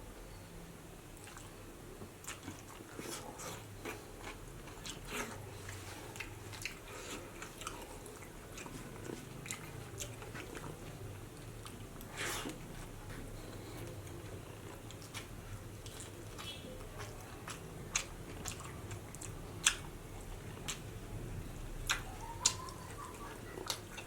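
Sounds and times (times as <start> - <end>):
wet chewing and mouth smacks: 1.2 - 20.9, 21.8 - 24.0.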